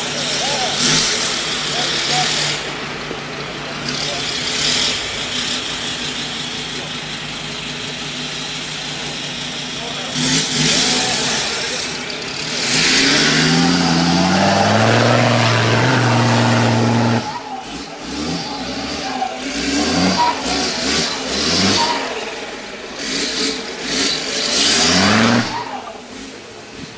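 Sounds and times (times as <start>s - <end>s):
engine revving hard: 0.0s - 2.8s, 3.6s - 6.9s, 9.8s - 26.9s.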